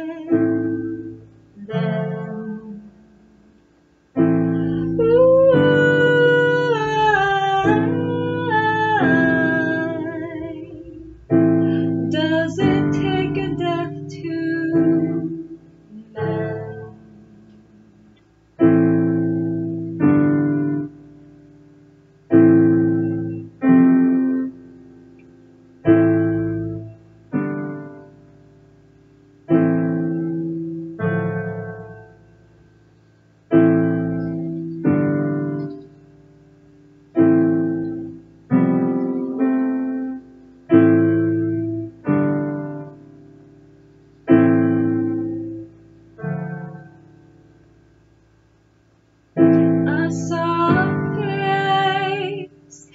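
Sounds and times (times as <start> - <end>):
digital piano chords: 0.0 - 52.9.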